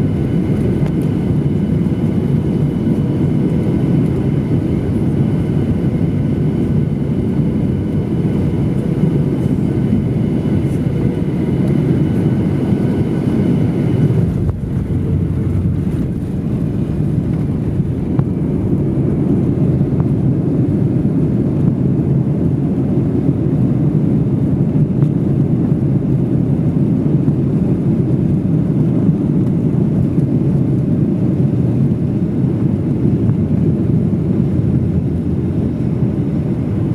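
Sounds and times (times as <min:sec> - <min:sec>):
high engine whine: 0:00.0 - 0:36.9
loud airliner rumble: 0:00.0 - 0:36.9.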